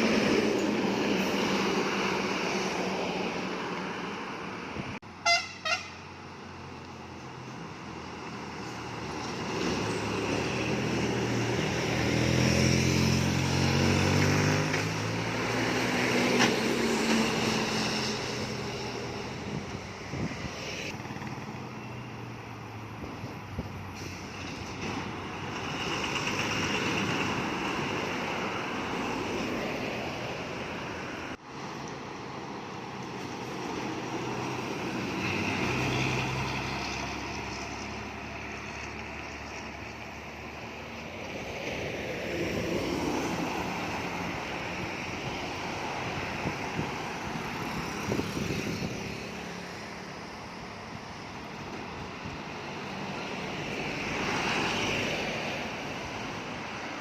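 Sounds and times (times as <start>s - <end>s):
road noise: 0.0s - 57.0s
trucks and buses passing: 0.0s - 57.0s.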